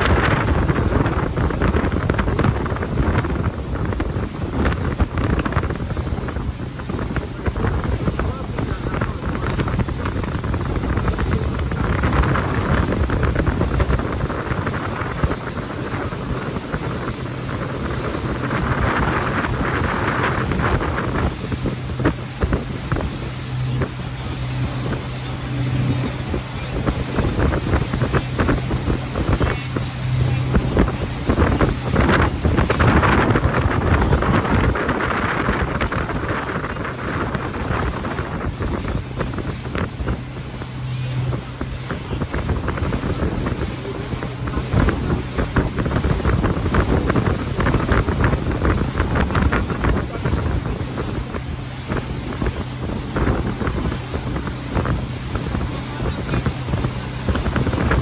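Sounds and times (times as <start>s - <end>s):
motorboat engine humming: 0.0s - 58.0s
water rushing past hull: 0.0s - 58.0s
wind buffeting microphone: 0.0s - 58.0s.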